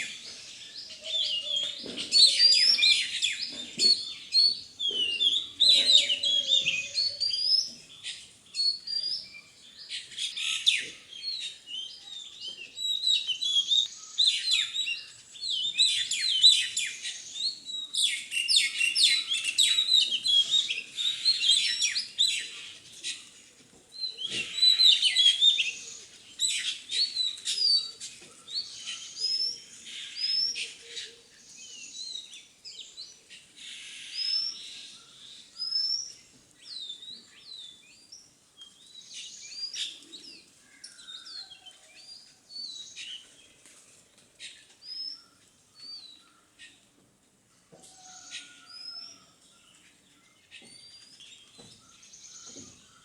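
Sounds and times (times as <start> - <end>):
birds chirping and twittering: 0.0 - 47.0, 47.6 - 53.0.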